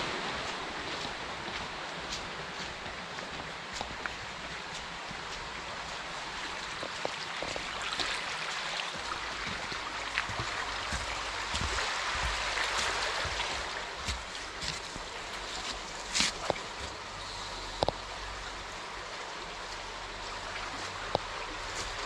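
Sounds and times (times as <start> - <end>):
forest stream rushing: 0.0 - 22.0.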